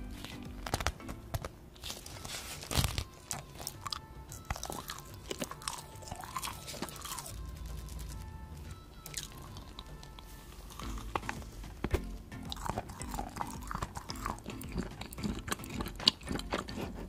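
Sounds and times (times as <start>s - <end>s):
person chewing mushroom: 1.7s - 8.3s, 9.0s - 17.0s.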